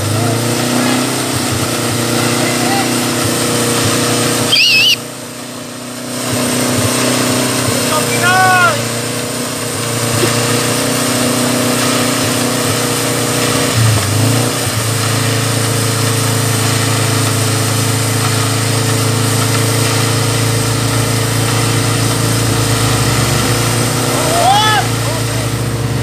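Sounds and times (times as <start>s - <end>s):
jeep engine running: 0.0s - 26.0s.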